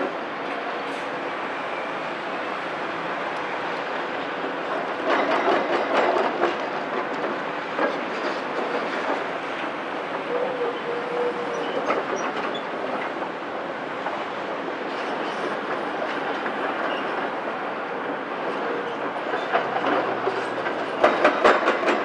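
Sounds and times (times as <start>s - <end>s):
crawler tracks clattering: 4.2s - 22.0s.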